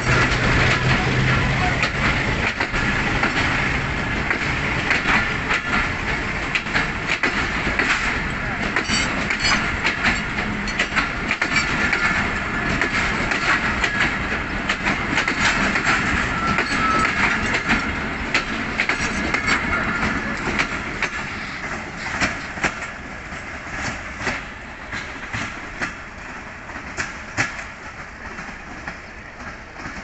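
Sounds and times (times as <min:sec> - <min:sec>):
train wheels clacking over rail joints: 0:00.0 - 0:30.0.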